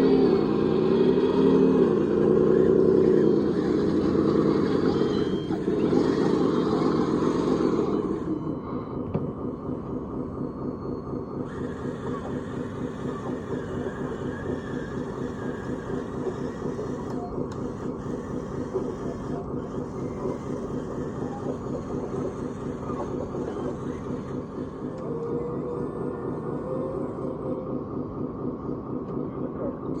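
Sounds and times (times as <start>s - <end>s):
model machine pulsing hum: 0.0s - 30.0s.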